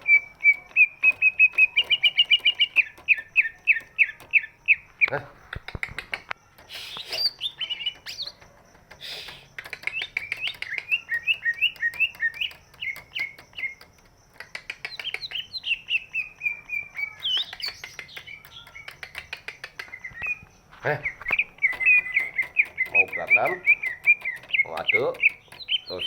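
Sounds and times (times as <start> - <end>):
bird singing with quick chirps: 0.0 - 26.0
harsh rasping bird calls: 0.0 - 26.0.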